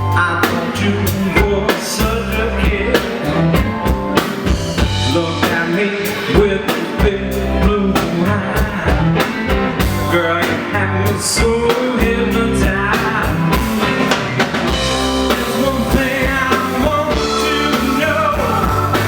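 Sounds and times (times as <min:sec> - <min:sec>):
drum kit beat: 0:00.0 - 0:19.0
rock band playing: 0:00.0 - 0:19.0.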